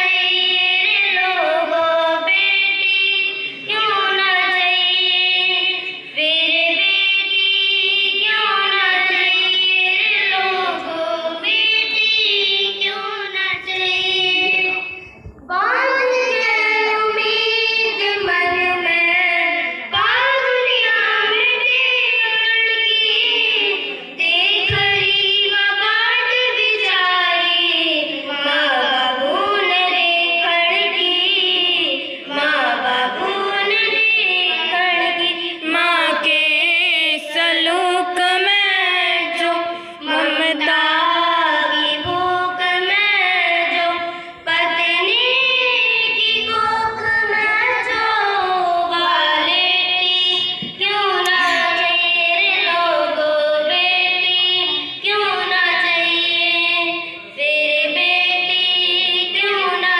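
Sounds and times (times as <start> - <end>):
girls singing: 0.0 - 59.9.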